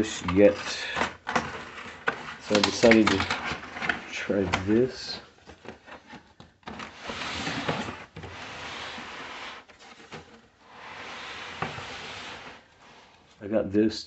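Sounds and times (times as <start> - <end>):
cardboard rustling and scraping: 0.0 - 13.4.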